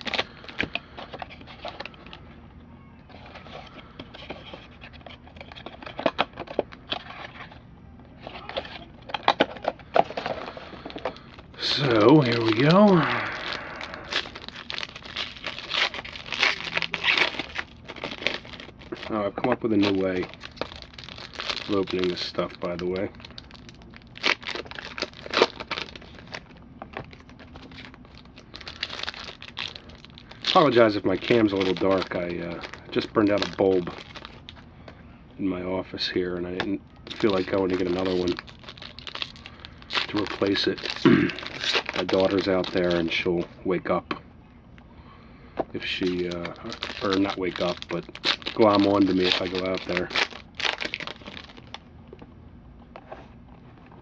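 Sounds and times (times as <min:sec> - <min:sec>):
packaging crinkling and tearing: 0:00.0 - 0:02.2, 0:03.1 - 0:07.6, 0:08.2 - 0:34.6, 0:37.0 - 0:43.4, 0:45.8 - 0:51.8.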